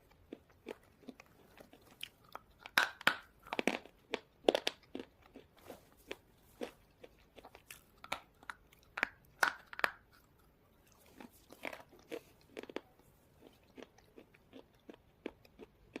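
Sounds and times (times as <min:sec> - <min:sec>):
crunchy biting and chewing: 0:00.0 - 0:16.0.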